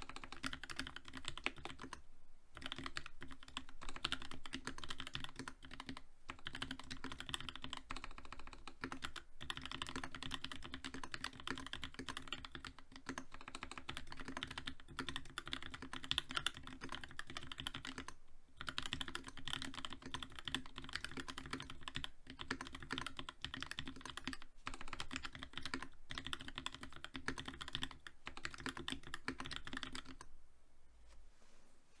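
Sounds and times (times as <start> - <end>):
typing on mechanical keyboard: 0.0 - 2.0, 2.6 - 30.3.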